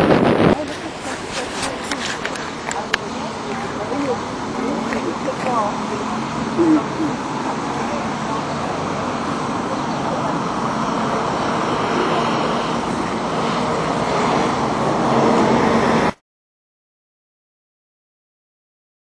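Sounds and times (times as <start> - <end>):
wind rushing over microphone: 0.0 - 16.2.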